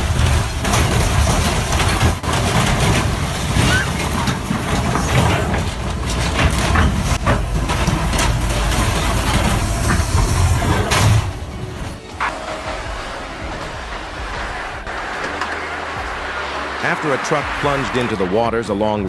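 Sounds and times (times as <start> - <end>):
sharp clanks and knocks: 0.0 - 15.7
heavy machine running under load: 0.0 - 19.0.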